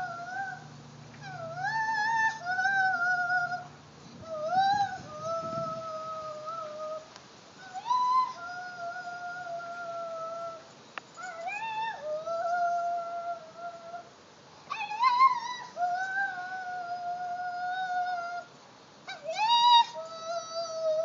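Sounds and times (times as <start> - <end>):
dog howling: 0.0 - 0.6, 1.2 - 10.6, 11.2 - 14.1, 14.7 - 18.5, 19.1 - 21.0.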